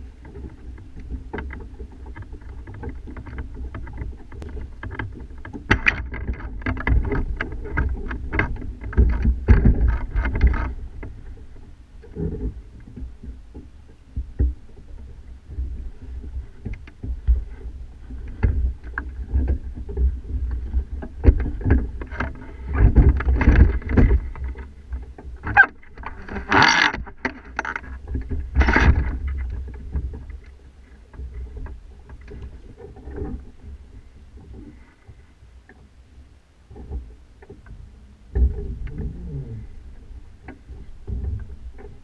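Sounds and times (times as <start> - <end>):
mast and rigging rattling: 0.0 - 35.3
wind rumble and buffeting: 0.0 - 42.0.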